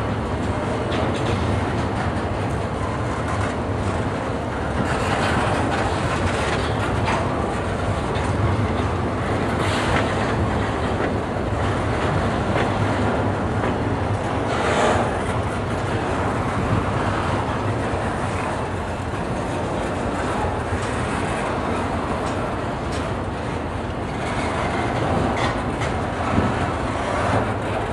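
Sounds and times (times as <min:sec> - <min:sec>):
steel wheels rumbling on rails: 0:00.0 - 0:27.9.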